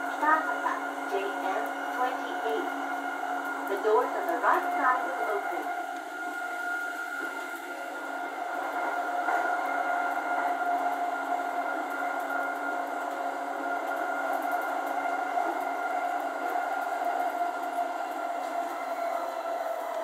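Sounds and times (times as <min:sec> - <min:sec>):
train motor whine: 0:00.0 - 0:20.0
train running on rails: 0:00.0 - 0:20.0.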